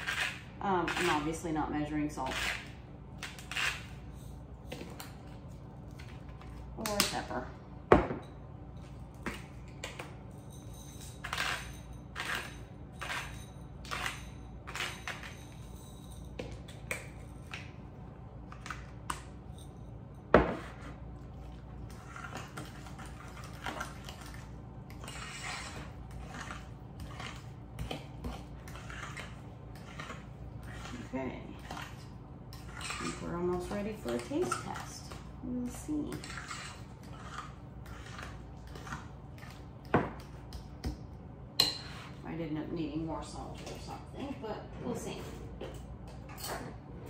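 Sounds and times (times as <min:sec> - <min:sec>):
utensil scraping a bowl: 0:00.0 - 0:06.6, 0:08.8 - 0:17.8, 0:18.5 - 0:40.6, 0:41.6 - 0:45.3.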